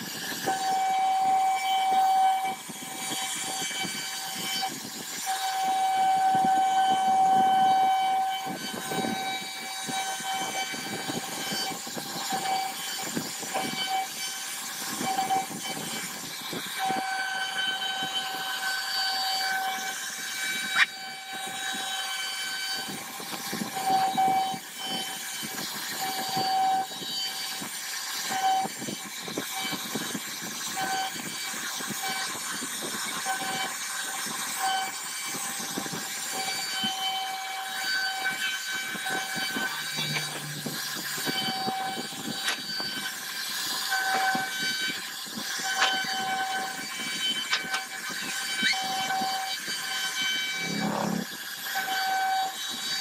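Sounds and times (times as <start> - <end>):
cnc router spindle whine: 0.0 - 53.0.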